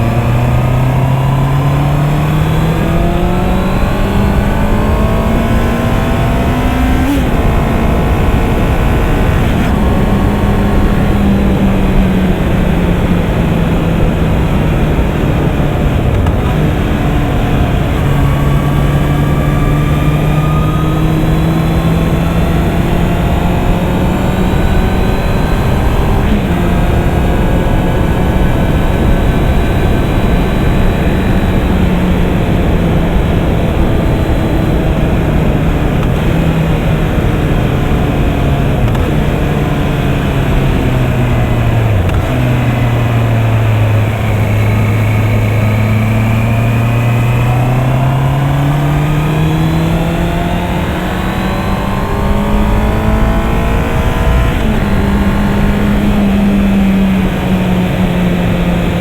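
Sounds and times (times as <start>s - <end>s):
motorcycle engine running: 0.0s - 59.0s
wind rush: 0.0s - 59.0s.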